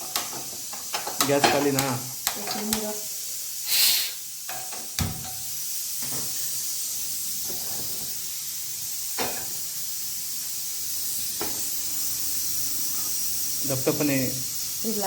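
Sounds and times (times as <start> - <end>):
oil hissing in a pan: 0.0 - 15.0.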